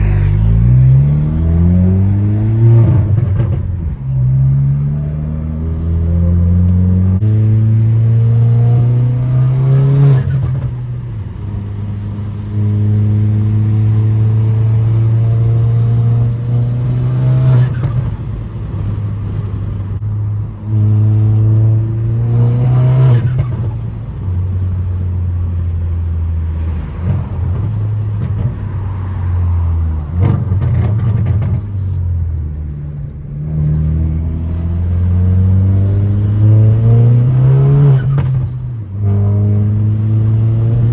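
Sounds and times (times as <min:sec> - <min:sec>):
car engine revving through gears: 0:00.0 - 0:40.9.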